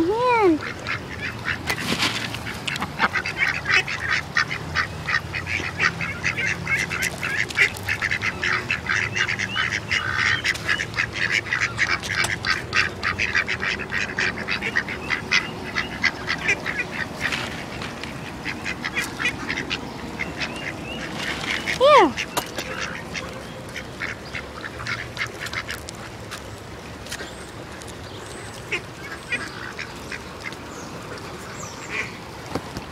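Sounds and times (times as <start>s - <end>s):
ducks quacking: 0.1s - 26.4s, 27.1s - 32.2s.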